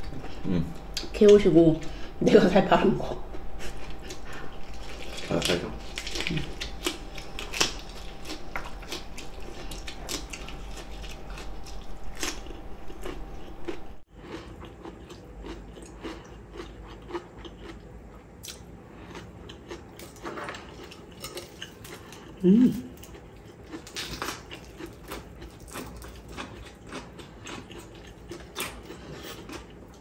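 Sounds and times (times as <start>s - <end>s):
chewing and crunching food: 3.1s - 30.0s.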